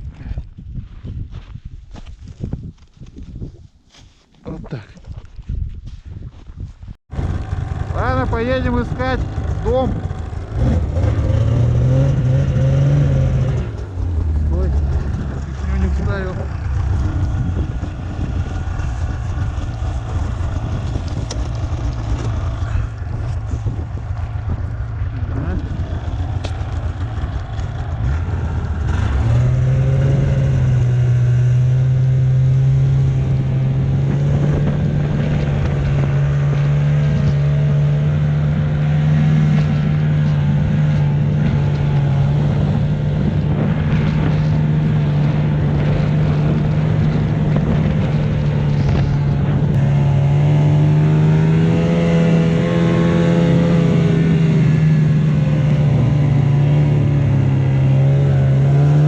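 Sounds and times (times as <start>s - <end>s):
snowmobile engine running: 7.1s - 59.0s.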